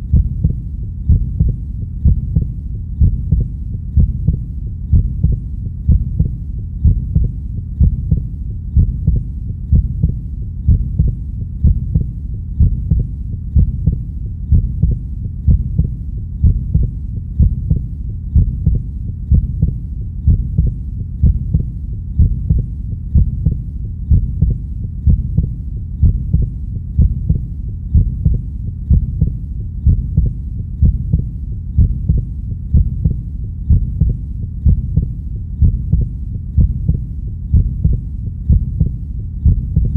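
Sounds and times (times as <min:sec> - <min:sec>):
constant low rumble: 0:00.0 - 0:39.9
heartbeat double thud: 0:00.1 - 0:39.9.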